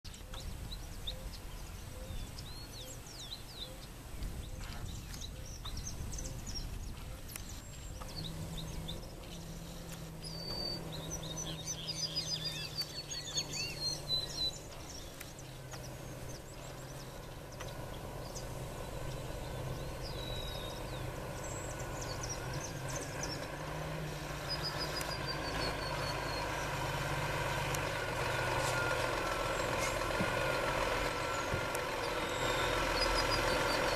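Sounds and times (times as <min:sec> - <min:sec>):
birds chirping: 0:00.1 - 0:33.9
truck diesel engine approaching: 0:00.1 - 0:33.9.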